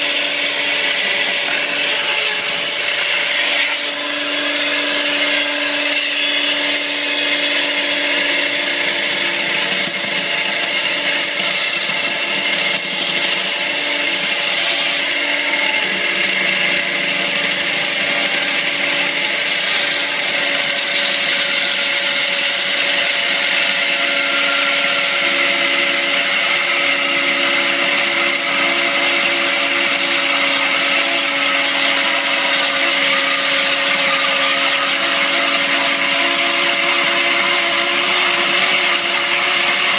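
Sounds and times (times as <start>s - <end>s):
chainsaw cutting concrete: 0.0s - 39.9s.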